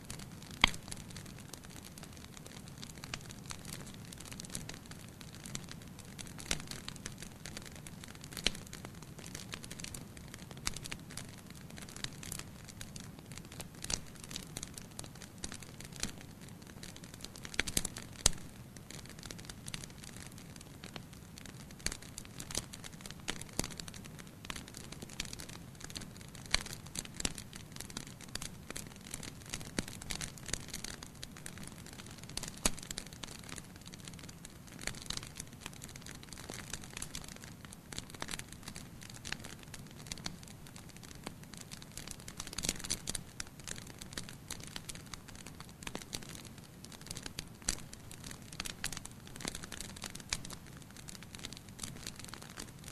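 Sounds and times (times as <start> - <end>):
wood fire crackling and popping: 0.0 - 52.9
low rumble of flames: 0.1 - 52.6.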